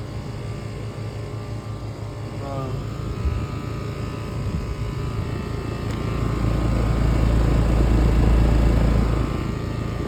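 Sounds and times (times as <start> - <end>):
air conditioner fan hum: 0.0 - 10.0.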